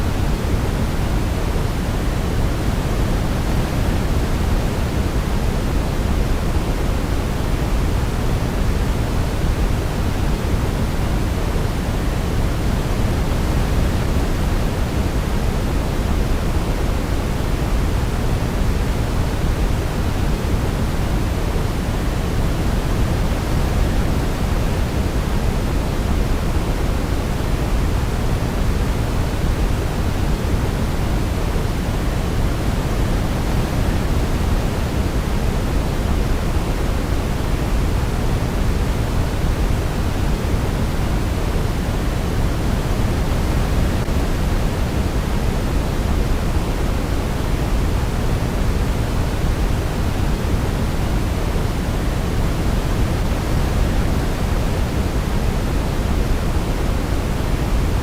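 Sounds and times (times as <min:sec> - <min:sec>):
steady low hiss noise: 0:00.0 - 0:58.0.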